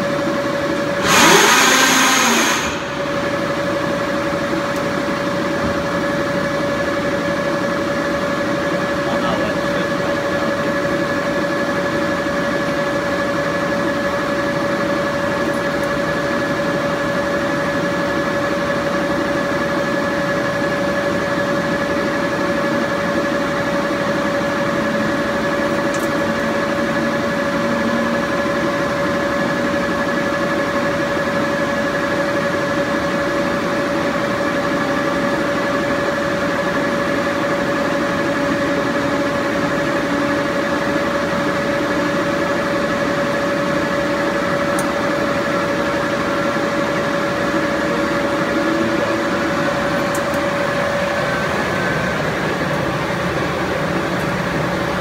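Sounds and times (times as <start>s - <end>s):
lathe humming with whine: 0.0s - 55.0s.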